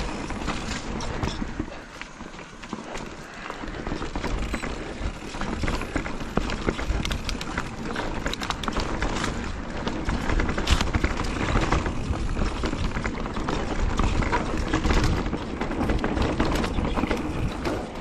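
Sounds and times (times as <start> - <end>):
bike chain and frame rattling: 0.0 - 18.0
bike tyres rolling over dirt: 0.0 - 18.0
wind buffeting microphone: 3.1 - 18.0.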